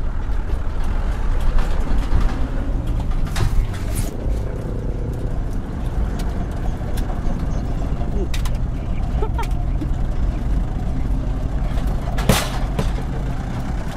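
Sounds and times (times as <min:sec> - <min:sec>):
truck engine running low: 0:00.0 - 0:13.9.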